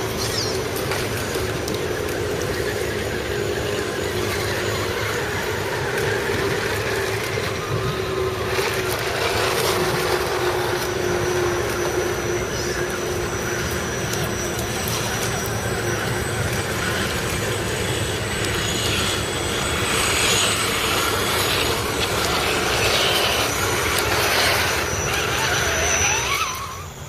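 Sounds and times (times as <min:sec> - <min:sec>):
faint high whine: 0:00.0 - 0:27.0
rc truck motor whine: 0:00.0 - 0:27.0.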